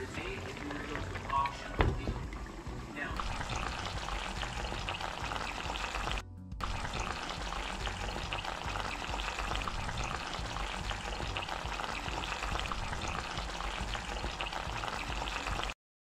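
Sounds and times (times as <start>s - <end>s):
sauce bubbling and sizzling: 0.0s - 15.8s.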